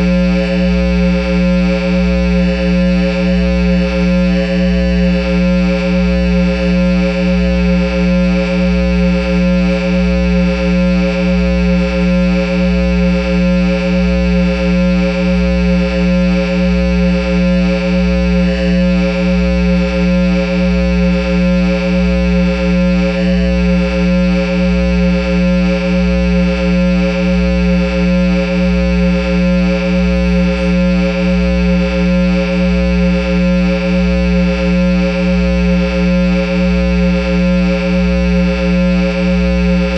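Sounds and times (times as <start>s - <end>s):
guitar amplifier drone: 0.0s - 39.9s.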